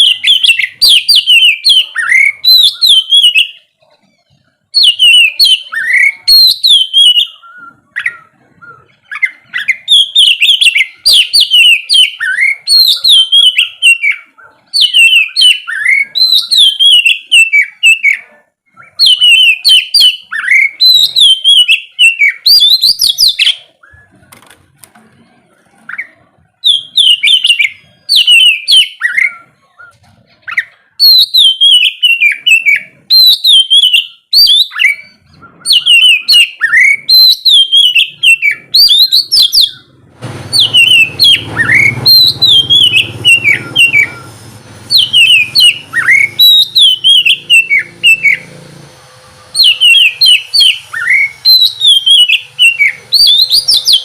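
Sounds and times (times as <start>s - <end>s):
bird singing whistled phrases: 0.0s - 3.8s, 4.7s - 24.2s, 25.9s - 39.9s, 40.5s - 48.6s, 49.5s - 54.0s.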